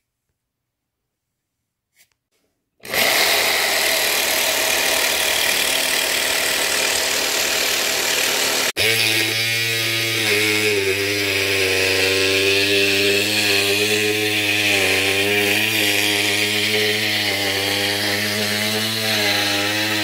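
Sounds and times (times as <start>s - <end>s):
jigsaw buzzing through gourd shell: 2.8s - 20.0s
small saw humming whine: 2.8s - 20.0s.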